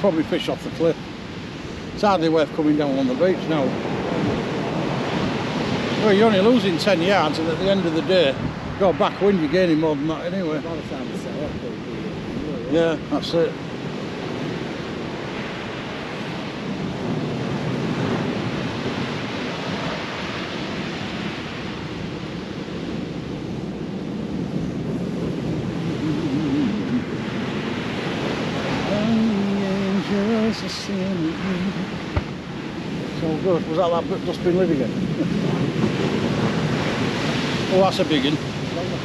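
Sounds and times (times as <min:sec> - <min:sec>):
surf breaking on beach: 0:00.0 - 0:39.0
wind buffeting microphone: 0:00.0 - 0:39.0.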